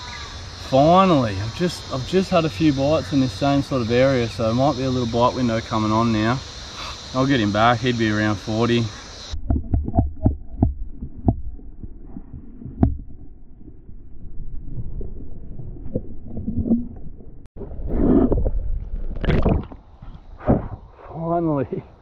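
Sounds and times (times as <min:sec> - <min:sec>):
water splashing: 0:01.5 - 0:19.9.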